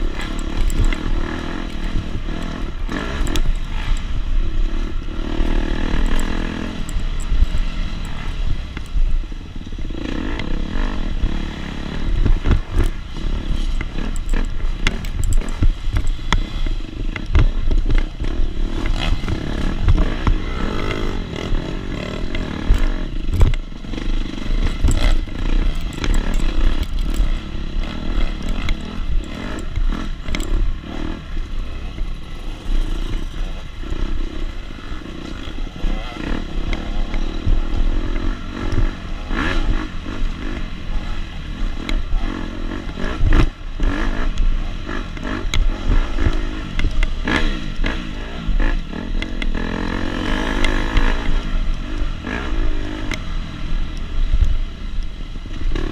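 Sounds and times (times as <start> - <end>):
dirt bike engine revving: 0.0 - 54.8, 55.4 - 55.9.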